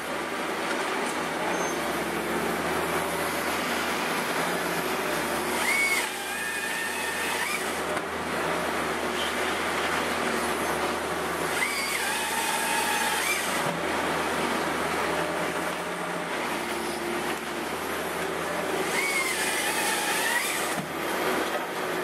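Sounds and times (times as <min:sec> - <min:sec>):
diesel engine and hydraulics running: 0:00.0 - 0:22.0
saw whining cutting log: 0:01.5 - 0:09.3, 0:10.3 - 0:21.5.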